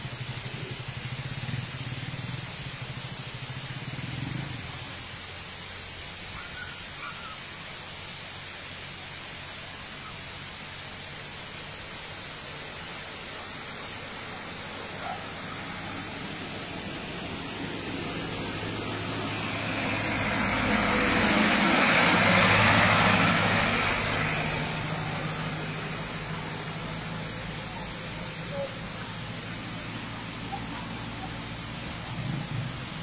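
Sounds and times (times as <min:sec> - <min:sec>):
low vehicle engine hum: 0:00.0 - 0:33.0
outdoor hiss: 0:00.0 - 0:33.0.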